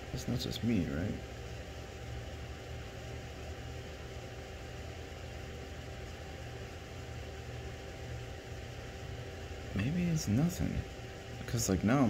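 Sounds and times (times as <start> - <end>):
faint steady whine: 0.0 - 12.0
low electrical hum: 0.0 - 12.0.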